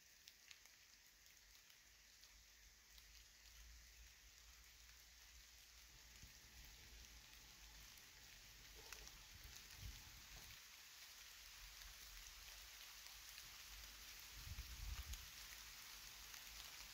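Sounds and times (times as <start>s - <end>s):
faint outdoor hiss: 0.0s - 16.9s.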